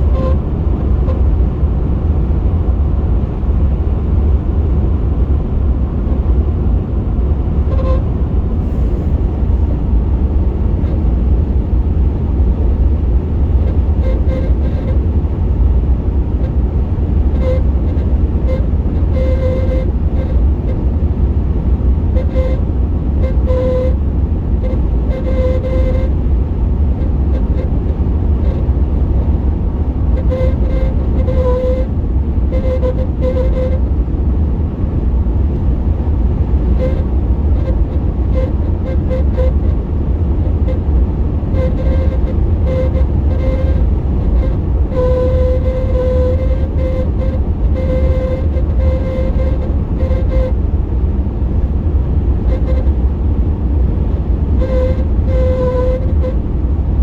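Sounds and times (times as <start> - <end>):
truck wind noise rumble: 0.0 - 57.0.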